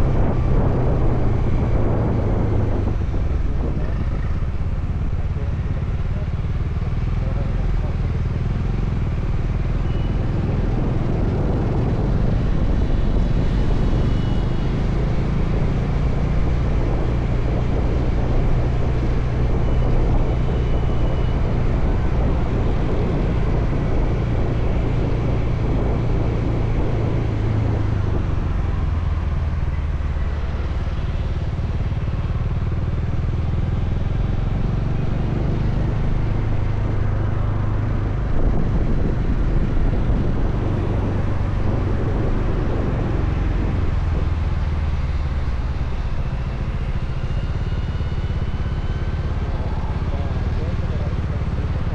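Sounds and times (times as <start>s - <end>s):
motorcycle engine running: 0.0s - 51.9s
road and wind noise: 0.0s - 51.9s.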